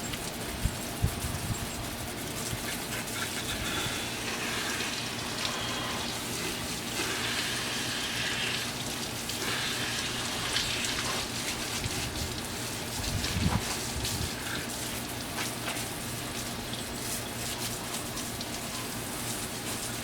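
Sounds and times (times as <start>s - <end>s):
water spray hissing: 0.0s - 20.0s.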